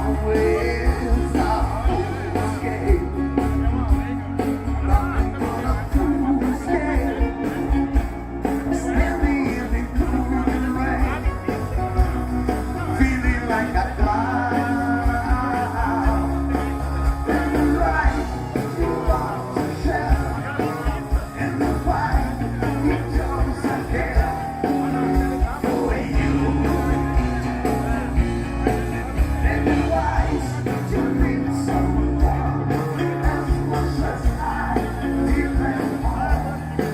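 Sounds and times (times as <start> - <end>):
rock and roll song: 0.0 - 36.9.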